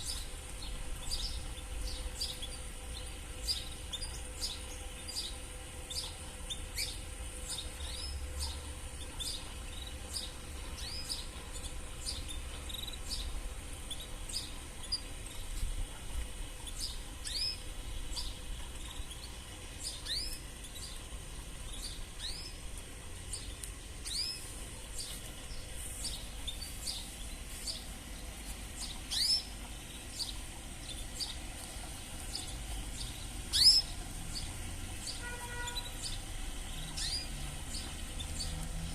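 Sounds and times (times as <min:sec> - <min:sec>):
canaries chirping: 0:00.0 - 0:38.9.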